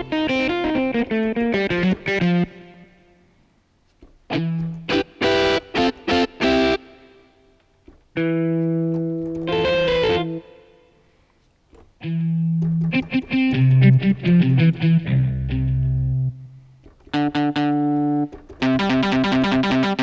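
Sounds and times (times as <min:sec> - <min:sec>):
synthesizer guitar chords: 0:00.0 - 0:03.0, 0:04.3 - 0:07.1, 0:08.2 - 0:10.7, 0:12.0 - 0:20.0.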